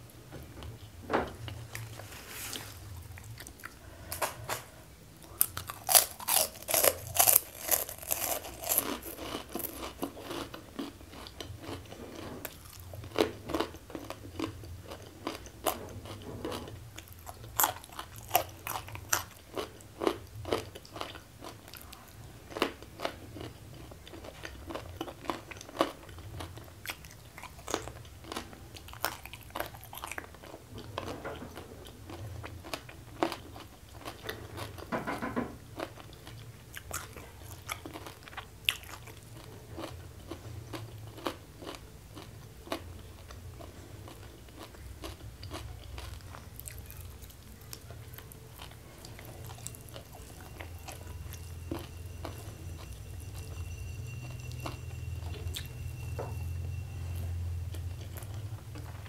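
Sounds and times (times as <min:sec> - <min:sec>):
chewing crunchy food: 0:00.6 - 0:53.6, 0:54.2 - 0:59.0.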